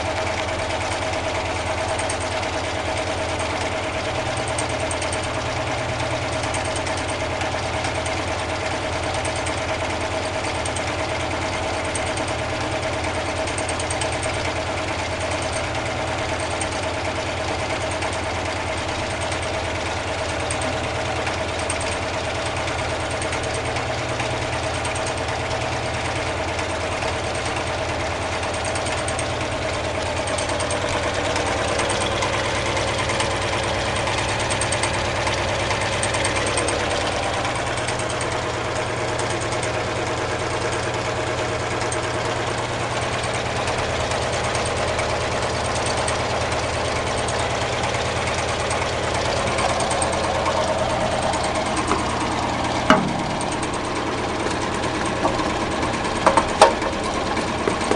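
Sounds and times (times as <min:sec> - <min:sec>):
engine mechanical hum: 0:00.0 - 0:57.9.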